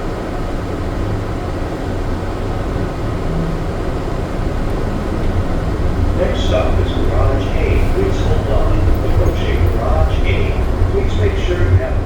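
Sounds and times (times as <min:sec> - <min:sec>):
train car rumble and hiss: 0:00.0 - 0:12.0.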